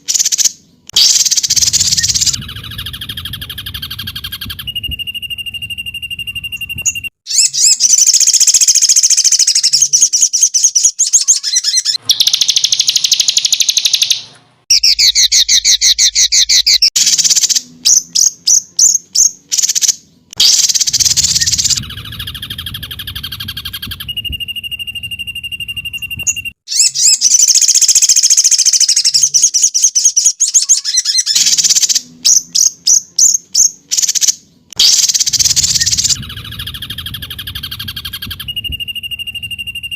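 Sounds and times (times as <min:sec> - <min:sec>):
bird trills and chattering: 0:00.0 - 0:39.9
held bird whistle: 0:00.0 - 0:39.9
sharp bird chips: 0:00.0 - 0:39.9.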